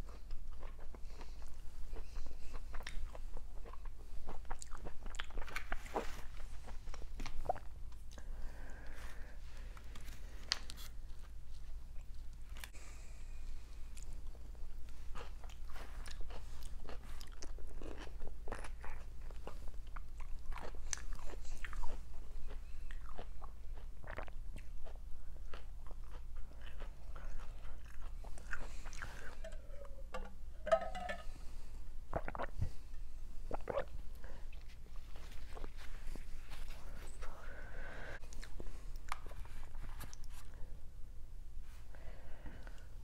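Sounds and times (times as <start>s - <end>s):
person chewing food: 0.0s - 12.8s, 13.9s - 31.4s, 32.1s - 37.6s.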